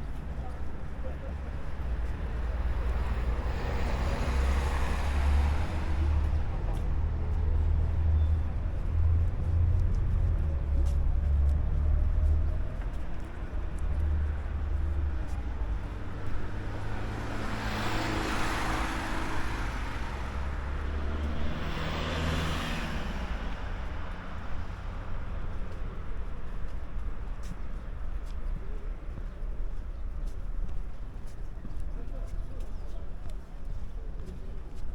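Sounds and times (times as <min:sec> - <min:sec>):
low vehicle rumble: 0:00.0 - 0:29.1
vehicles passing by: 0:00.0 - 0:34.9.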